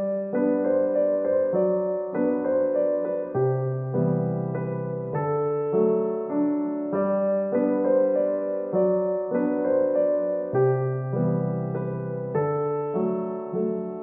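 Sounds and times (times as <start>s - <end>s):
gentle keyboard tune: 0.0s - 14.0s.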